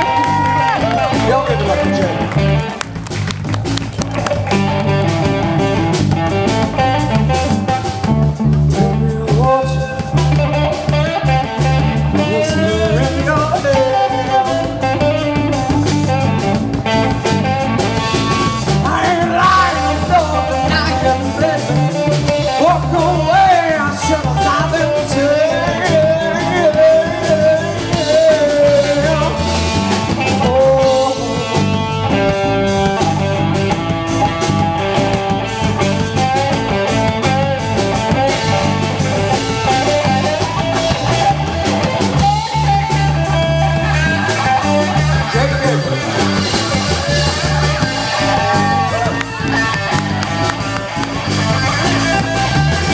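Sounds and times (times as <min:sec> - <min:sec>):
bass notes: 0:00.0 - 0:52.9
bending lead guitar notes: 0:00.0 - 0:52.9
blues-rock band playing: 0:00.0 - 0:52.9.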